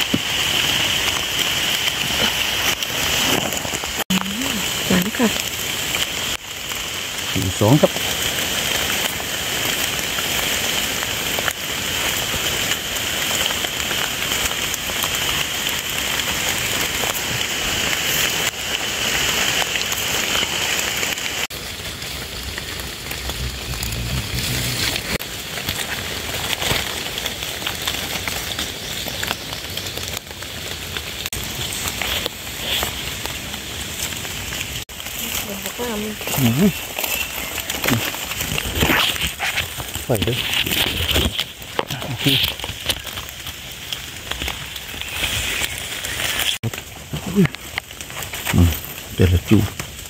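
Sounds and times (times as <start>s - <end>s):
rain on wet leaf litter: 0.0s - 50.0s.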